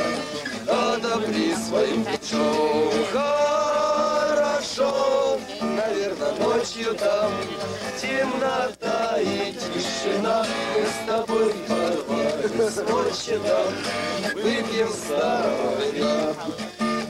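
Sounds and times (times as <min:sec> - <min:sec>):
men singing in unison: 0:00.0 - 0:16.5
strummed acoustic guitar: 0:00.0 - 0:17.0.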